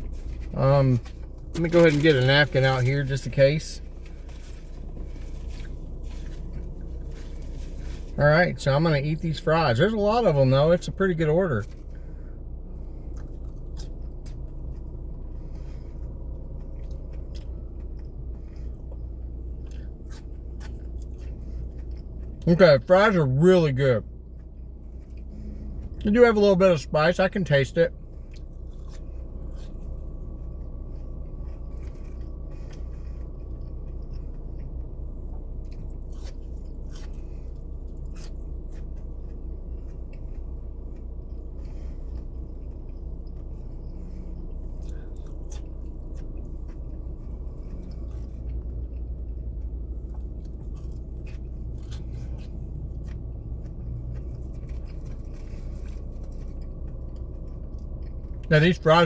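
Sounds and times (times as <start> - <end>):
man chewing fries: 0.0 - 59.0
steady low car hum: 0.0 - 59.0.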